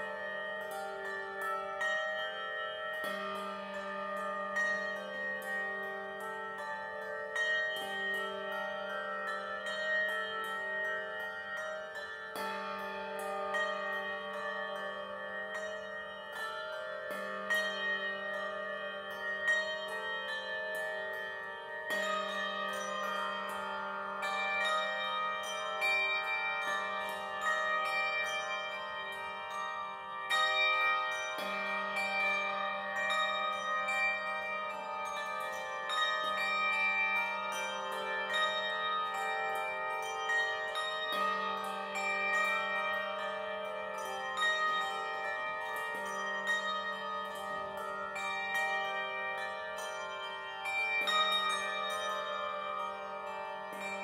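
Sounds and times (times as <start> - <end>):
handbell choir playing chords: 0.0 - 54.0.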